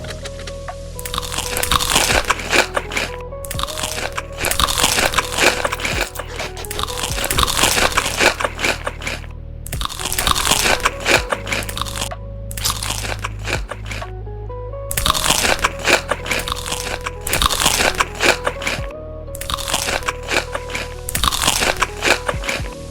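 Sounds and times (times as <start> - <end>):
crunchy food chewing: 0.0 - 14.1, 14.9 - 22.9
background music: 0.0 - 22.9.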